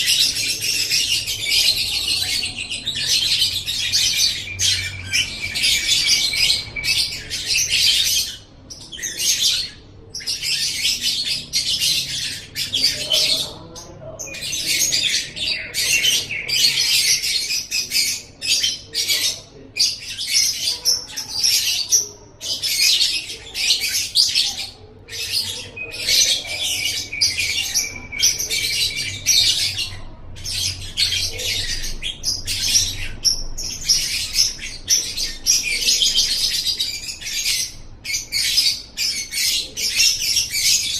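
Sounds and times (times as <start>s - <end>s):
lovebird chattering and twittering: 0.0s - 40.9s.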